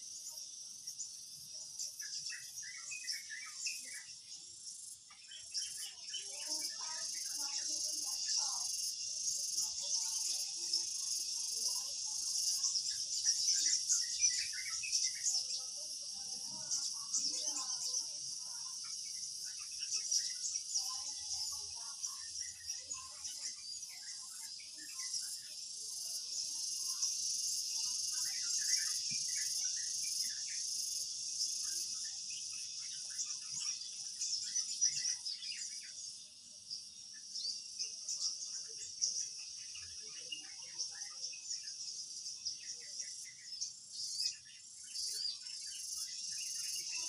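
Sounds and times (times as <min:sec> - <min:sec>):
high insect chorus: 0:00.0 - 0:47.0.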